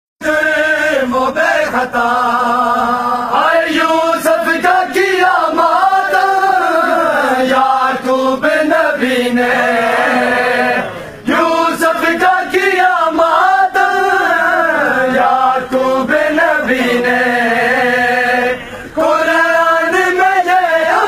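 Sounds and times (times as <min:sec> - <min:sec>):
men chanting a lament: 0:00.2 - 0:21.0.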